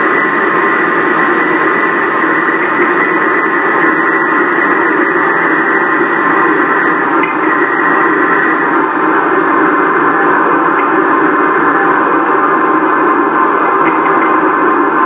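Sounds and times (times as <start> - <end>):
vibration shaker steady noise: 0.0 - 15.0.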